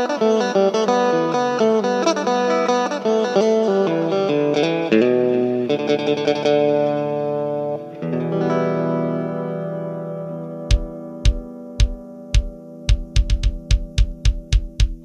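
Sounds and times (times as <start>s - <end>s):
plucked lute music: 0.0s - 15.0s.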